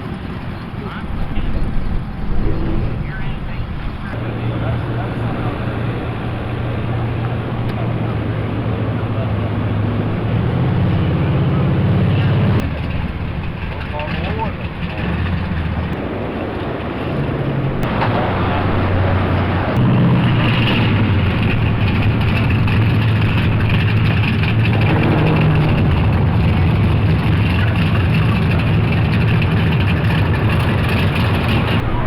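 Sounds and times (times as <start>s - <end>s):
car engine droning: 0.0s - 32.0s
road noise: 0.0s - 32.0s.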